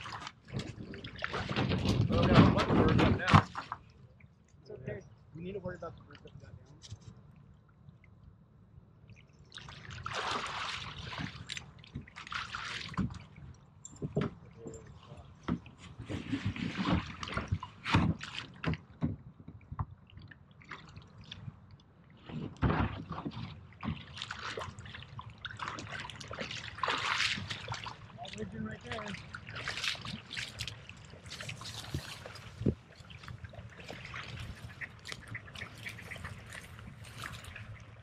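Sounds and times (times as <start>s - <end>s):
water sloshing and splashing: 0.0s - 38.0s.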